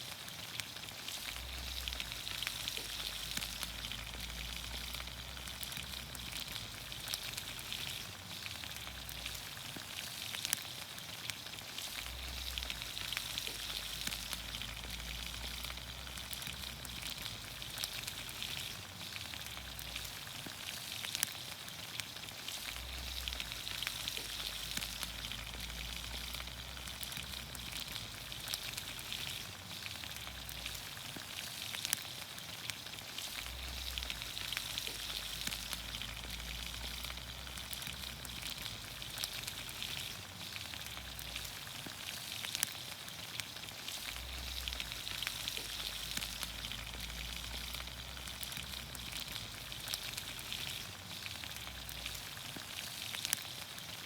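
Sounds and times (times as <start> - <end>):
small pops and crackles: 0.0 - 54.0
vegetables sizzling in a pan: 0.0 - 54.0.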